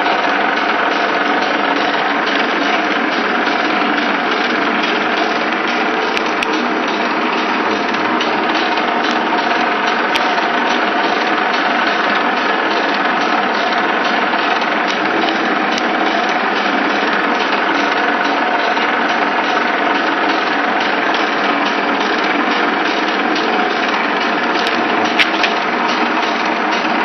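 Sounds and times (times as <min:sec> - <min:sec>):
sealer machine whirring: 0:00.0 - 0:27.0.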